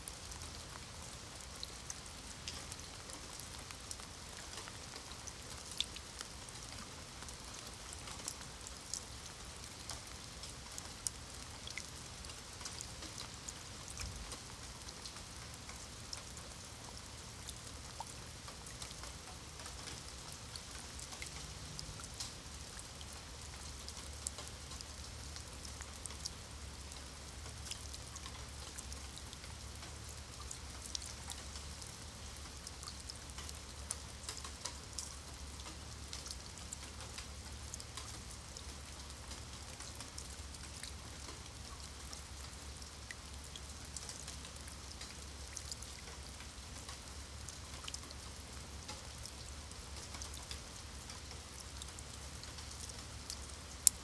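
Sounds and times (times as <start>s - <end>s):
rain on stone paving: 0.0s - 54.0s.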